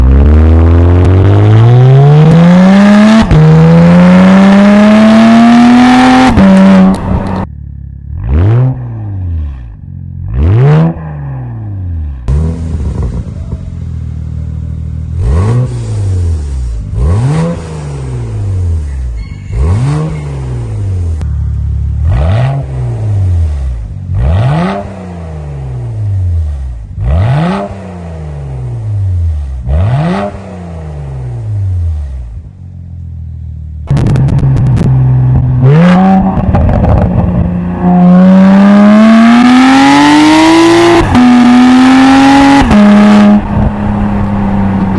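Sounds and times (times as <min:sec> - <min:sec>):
car engine accelerating and revving: 0:00.0 - 0:07.5, 0:08.1 - 0:18.9, 0:19.5 - 0:32.5, 0:33.8 - 0:44.9.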